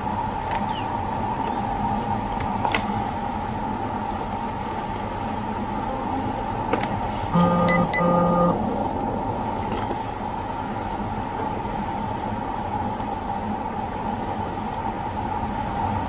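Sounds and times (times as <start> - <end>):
vehicle running hum: 0.0 - 16.0.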